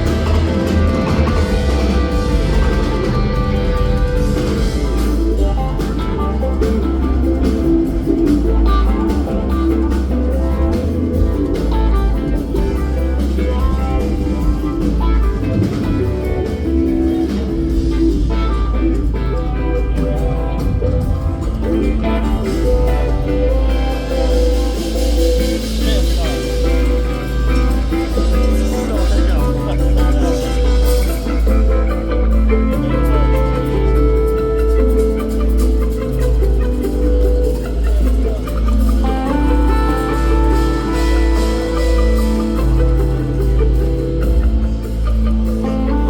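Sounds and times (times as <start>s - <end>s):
rock band playing live: 0.0s - 46.0s.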